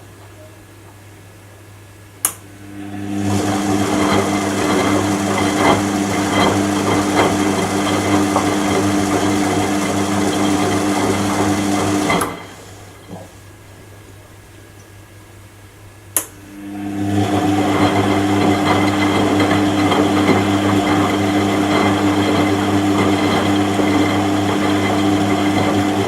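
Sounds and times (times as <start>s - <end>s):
washing machine drum motor: 2.5s - 14.5s, 16.1s - 26.0s.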